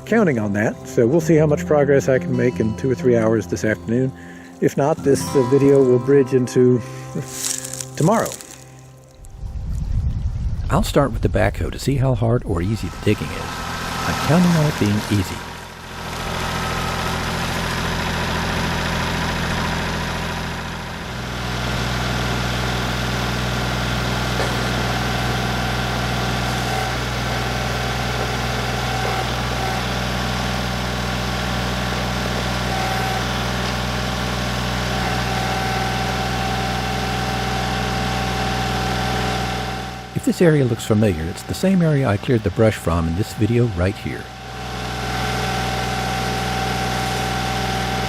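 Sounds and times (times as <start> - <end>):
tractor diesel engine running: 0.0 - 9.6, 11.4 - 48.0.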